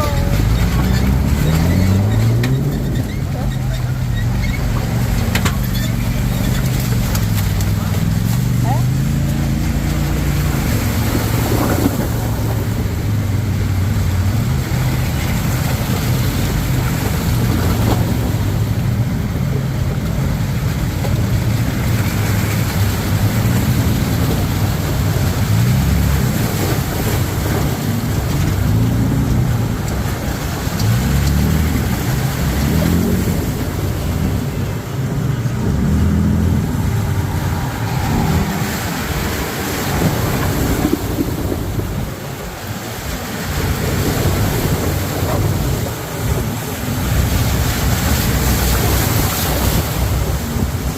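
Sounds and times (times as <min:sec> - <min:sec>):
off-road vehicle engine revving: 0:00.0 - 0:50.9
steady rushing noise: 0:00.0 - 0:50.9.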